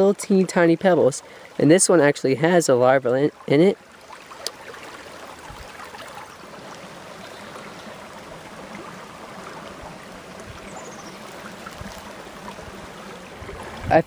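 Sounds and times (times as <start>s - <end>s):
stream running over stones: 0.0s - 14.0s.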